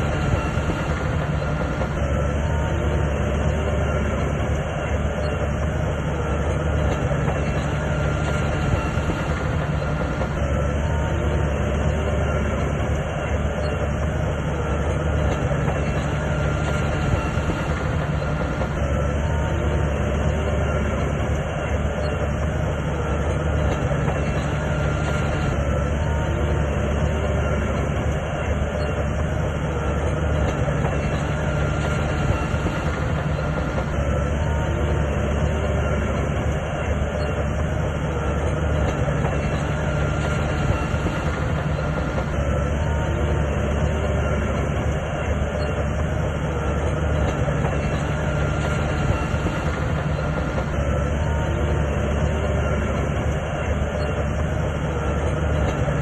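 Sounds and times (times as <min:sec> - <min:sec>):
diesel engine under load: 0:00.0 - 0:56.0
steel tracks clanking: 0:00.0 - 0:56.0.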